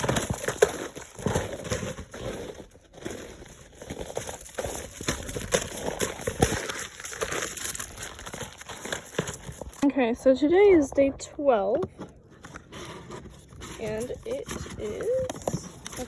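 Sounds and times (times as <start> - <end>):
dog chewing cardboard: 0.0 - 9.8, 12.1 - 16.0.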